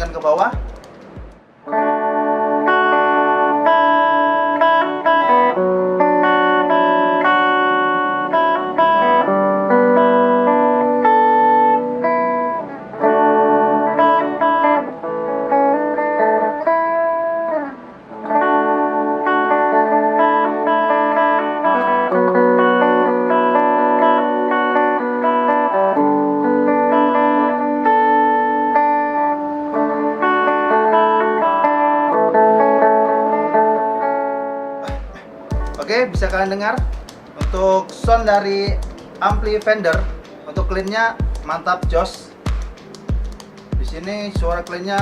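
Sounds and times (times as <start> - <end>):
clean electric guitar chords: 0.0 - 45.0.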